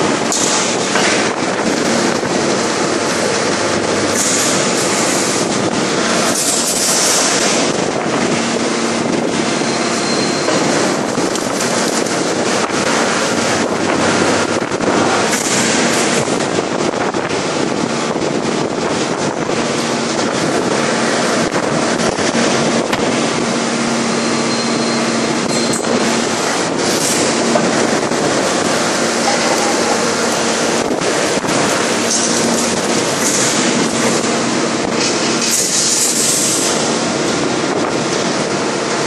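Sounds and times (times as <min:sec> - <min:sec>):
forging press machinery roar: 0:00.0 - 0:39.0.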